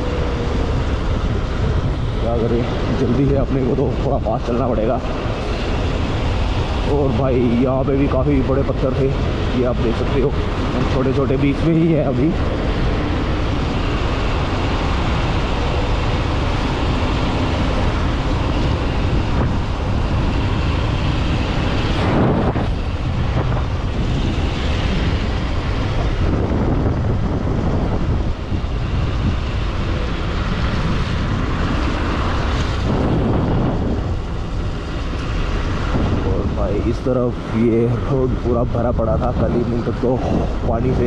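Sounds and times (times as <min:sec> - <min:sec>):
motorcycle running: 0:00.0 - 0:38.2
wind rushing over microphone: 0:00.0 - 0:41.0.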